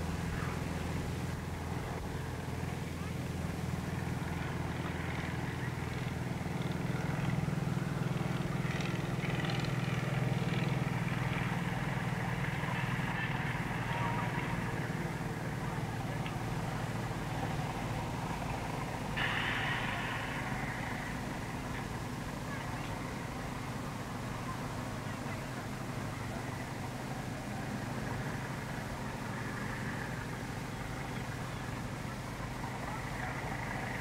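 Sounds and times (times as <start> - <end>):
low traffic hum: 0.0 - 34.0
street sound wash: 0.0 - 34.0.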